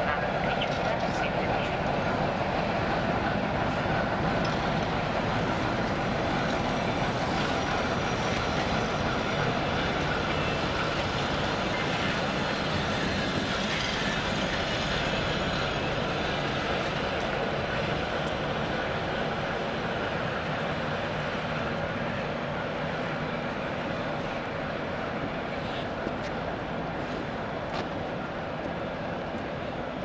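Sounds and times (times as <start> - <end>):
train coaches rumbling on track: 0.0 - 30.0.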